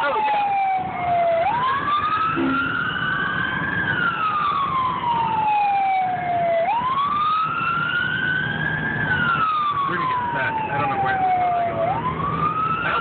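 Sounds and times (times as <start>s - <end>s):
emergency siren wailing: 0.0s - 13.0s
engine and road rumble: 0.0s - 13.0s.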